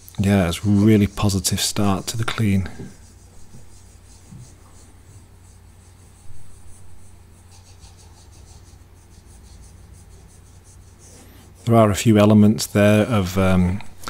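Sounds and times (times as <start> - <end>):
cotton swab rubbing a painting: 0.0 - 14.0.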